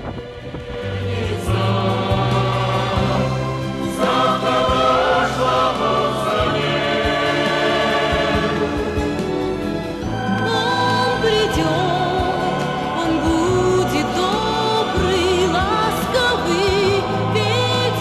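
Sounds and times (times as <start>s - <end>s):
choir singing sustained notes: 0.0s - 18.0s
instrumental accompaniment: 0.0s - 18.0s.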